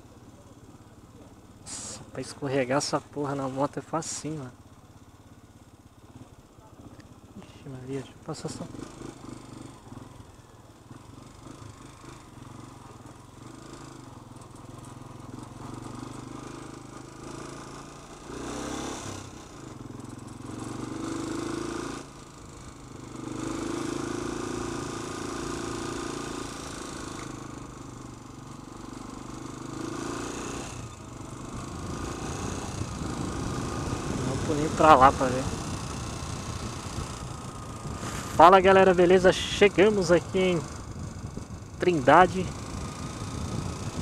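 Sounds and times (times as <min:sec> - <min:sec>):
motorcycle engine revving: 0:00.2 - 0:44.0.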